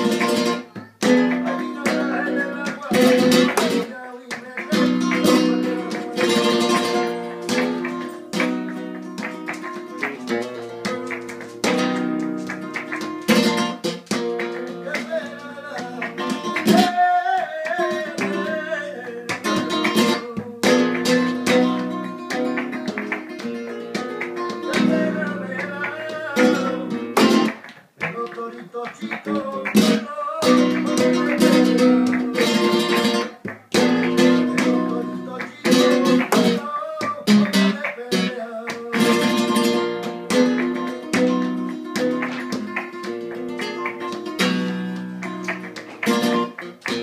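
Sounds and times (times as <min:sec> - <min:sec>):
flamenco guitar playing: 0:00.0 - 0:47.0.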